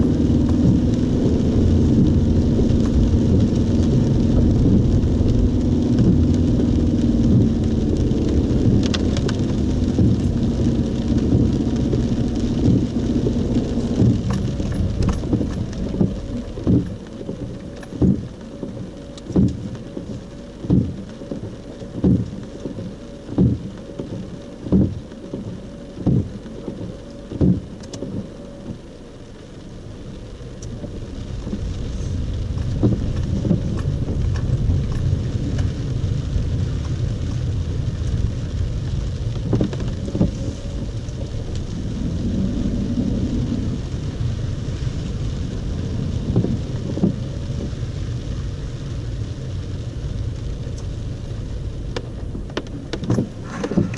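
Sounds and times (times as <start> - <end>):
car engine and tyres rumbling: 0.0 - 53.9
rain falling on car: 0.0 - 53.9
windscreen wipers sweeping: 0.0 - 53.9.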